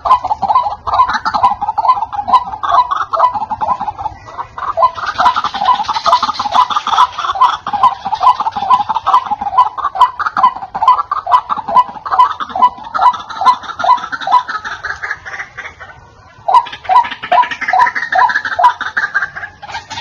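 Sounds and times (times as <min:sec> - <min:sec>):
waterhen croaking calls: 0:00.0 - 0:20.0.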